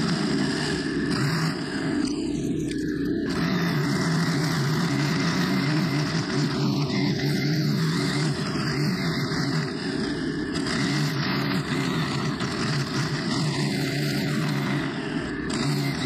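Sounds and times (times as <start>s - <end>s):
string trimmer engine running: 0.0s - 16.0s.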